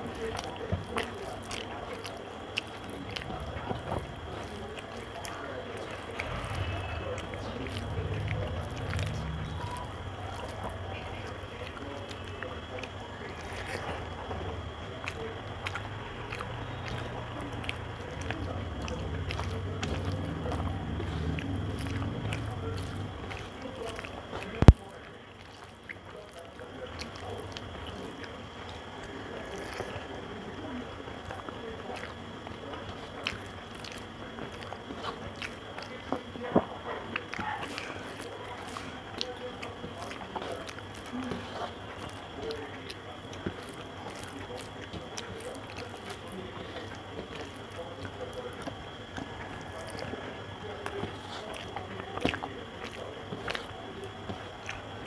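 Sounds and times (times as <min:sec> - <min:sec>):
chewing: 0:00.0 - 0:55.0
fingers squishing food on plate: 0:00.0 - 0:55.0.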